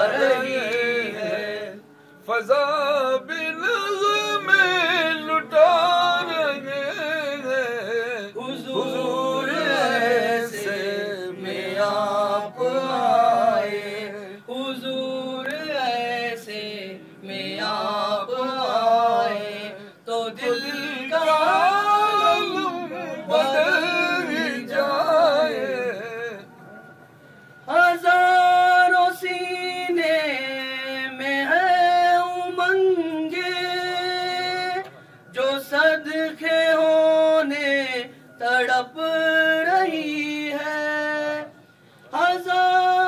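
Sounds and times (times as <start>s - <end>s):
man singing a cappella: 0.0s - 26.5s, 27.7s - 43.0s.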